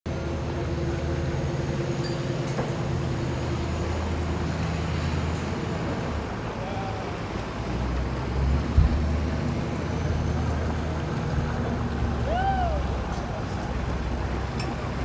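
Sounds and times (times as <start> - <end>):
boat engine idling: 0.1 - 15.0.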